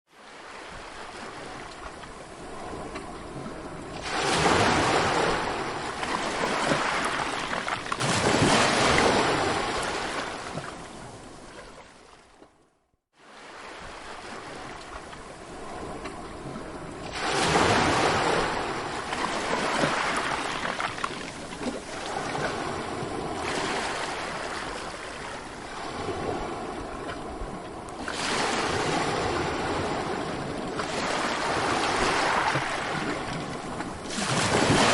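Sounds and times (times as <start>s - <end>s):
sea waves breaking: 0.1s - 12.6s, 13.2s - 34.9s.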